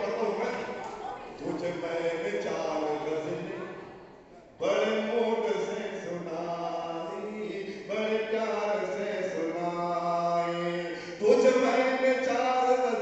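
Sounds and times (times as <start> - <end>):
man chanting a poem: 1.4 - 3.7, 4.6 - 13.0.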